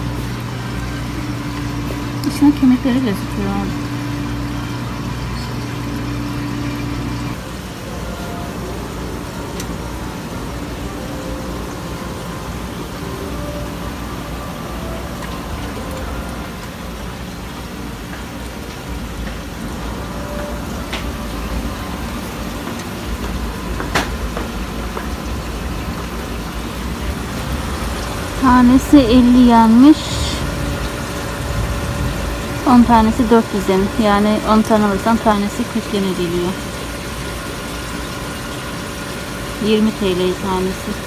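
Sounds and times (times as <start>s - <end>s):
aquarium air pumps and filters: 0.0s - 41.0s
low hum: 0.0s - 41.0s.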